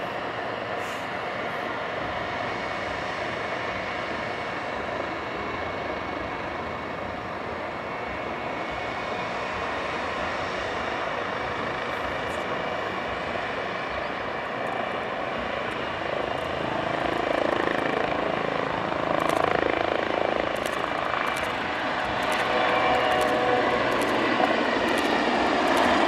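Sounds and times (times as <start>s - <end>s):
helicopter turbines whining: 0.0s - 26.0s.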